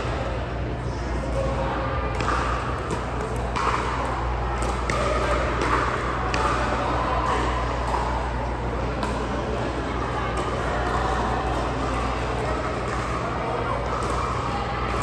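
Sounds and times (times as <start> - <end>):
distant chatter in a hall: 0.0 - 15.0.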